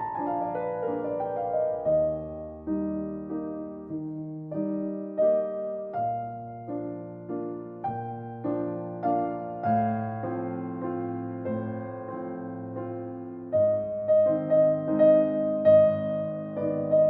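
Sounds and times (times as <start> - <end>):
slow gentle solo piano: 0.0 - 17.0.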